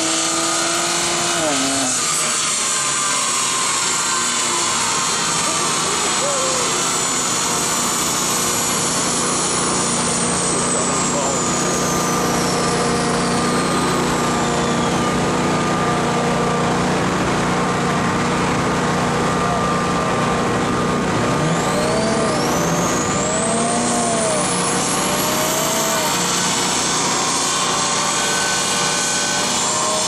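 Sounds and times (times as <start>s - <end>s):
car engine on dynamometer: 0.0s - 30.0s
high whine: 0.0s - 30.0s.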